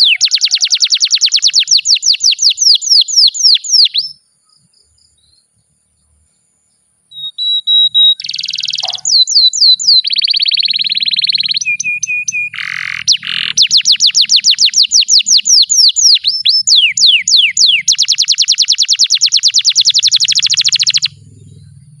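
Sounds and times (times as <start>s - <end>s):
canary singing trills: 0.0s - 6.2s, 7.1s - 22.0s.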